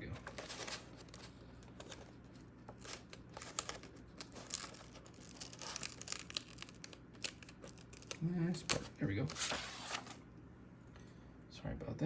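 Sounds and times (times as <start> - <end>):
paper sheet crinkling: 0.0 - 10.2
vinyl decal peeling off backing: 0.0 - 10.2.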